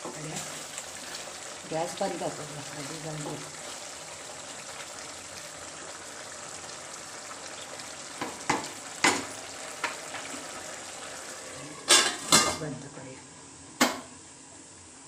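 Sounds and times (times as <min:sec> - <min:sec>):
low sizzle from hot pan: 0:00.0 - 0:15.0.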